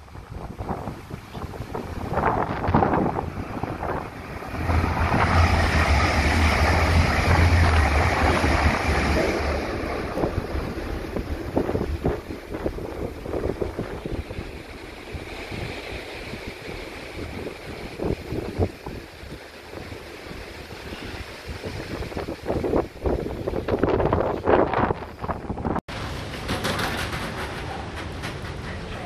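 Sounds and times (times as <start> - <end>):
wind buffeting microphone: 0.0 - 25.8
train passing with rumble: 0.0 - 29.0.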